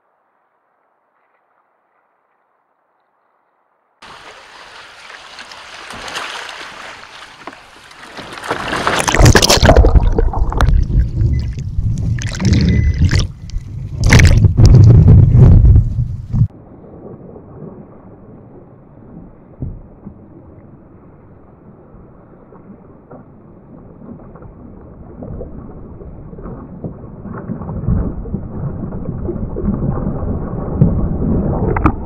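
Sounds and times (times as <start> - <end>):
muffled water and wind noise: 4.1 - 32.0.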